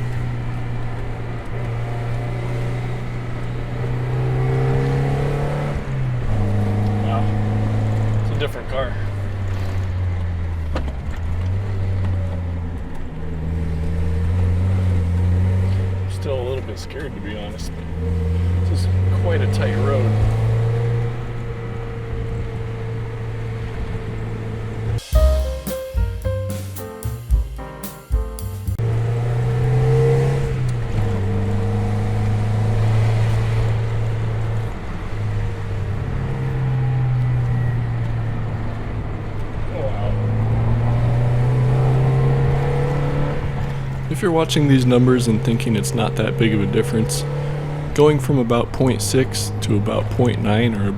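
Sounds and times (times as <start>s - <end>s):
car engine pulling: 0.0s - 25.0s, 28.8s - 50.9s
road and tyre noise: 0.0s - 25.0s, 28.8s - 50.9s.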